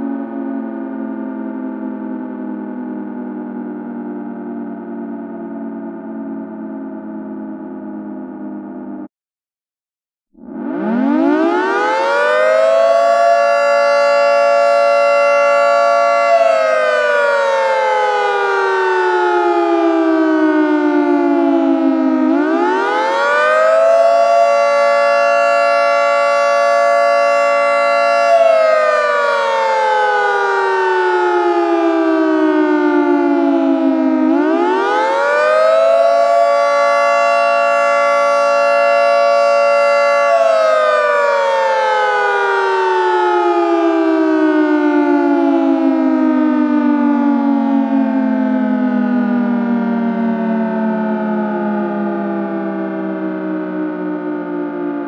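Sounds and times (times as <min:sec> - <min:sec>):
dual-tone siren winding up: 0:10.4 - 0:55.0.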